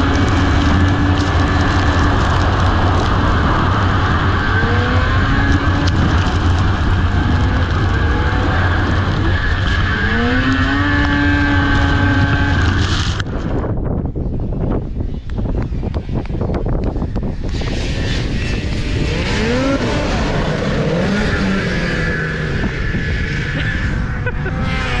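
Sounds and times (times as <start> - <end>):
heavy wind noise: 0.0 - 25.0
snowmobile engines at high throttle: 0.0 - 25.0.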